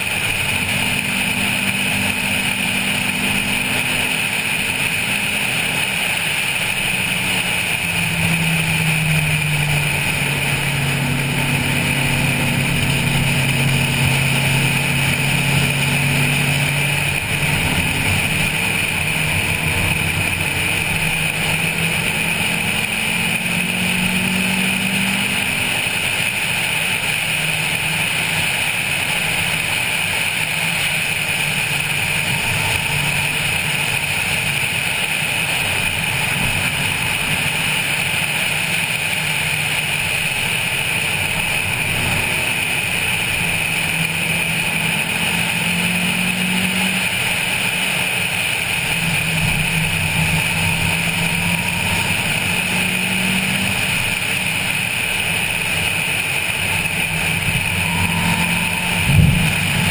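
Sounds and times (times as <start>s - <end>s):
car engine pulling at speed: 0.0s - 59.9s.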